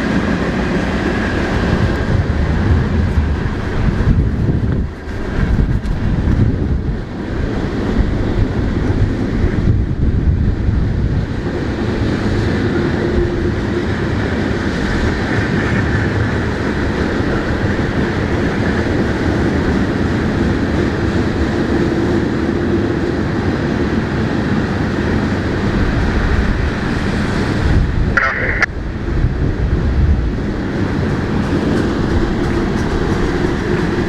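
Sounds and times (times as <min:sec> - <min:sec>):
freight train rolling past: 0:00.0 - 0:34.0.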